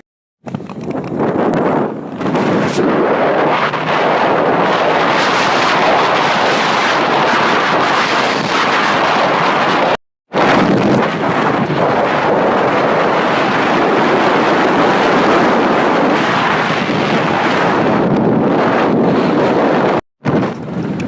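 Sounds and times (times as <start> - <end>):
wind buffeting microphone: 0.4 - 21.0.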